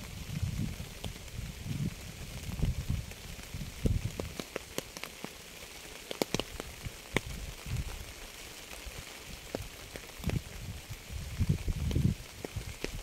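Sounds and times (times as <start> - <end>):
rain falling: 0.0 - 13.0
raindrops tapping on hard surface: 0.6 - 10.7, 11.4 - 13.0.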